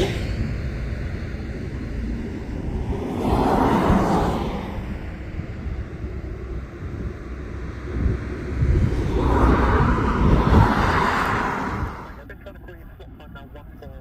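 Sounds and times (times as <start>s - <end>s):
wind buffeting microphone: 0.0s - 12.6s
vehicle noise: 0.0s - 14.0s.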